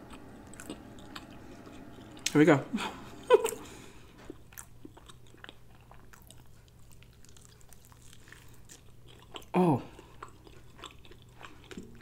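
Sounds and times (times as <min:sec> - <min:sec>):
crunching and chewing fried chicken: 0:00.1 - 0:02.3, 0:03.4 - 0:12.0.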